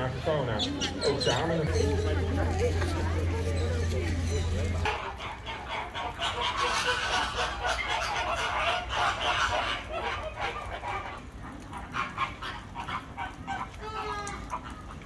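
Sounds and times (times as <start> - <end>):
flamingos honking: 0.0 - 15.0.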